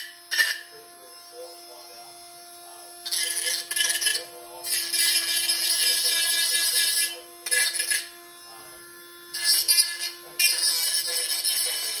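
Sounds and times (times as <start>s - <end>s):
rotary tool humming: 0.0s - 12.0s.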